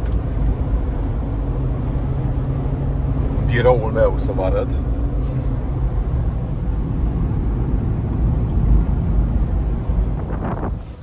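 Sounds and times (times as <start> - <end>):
road and wind rumble in car cabin: 0.0 - 11.0.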